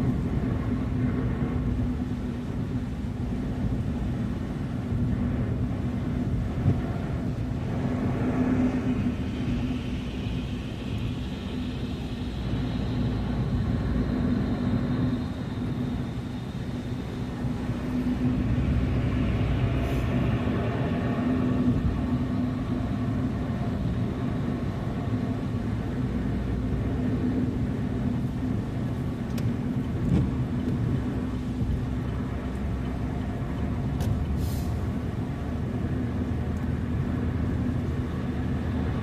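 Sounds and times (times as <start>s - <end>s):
car interior road rumble: 0.0s - 39.0s
constant hum: 0.0s - 39.0s.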